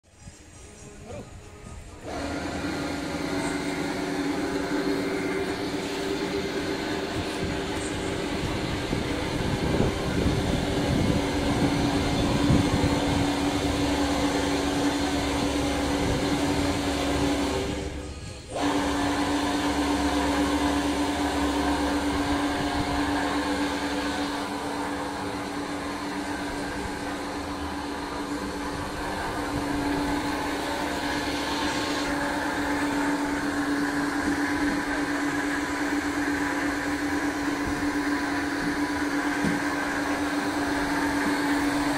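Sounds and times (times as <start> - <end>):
blender motor humming: 2.0 - 41.9.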